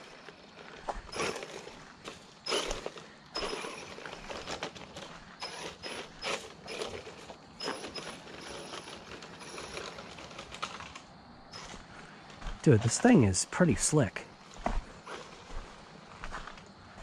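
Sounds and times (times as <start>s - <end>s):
tyres scrabbling over stones: 0.0s - 13.4s, 14.4s - 15.9s
rc car motor and gear whine: 0.0s - 16.7s.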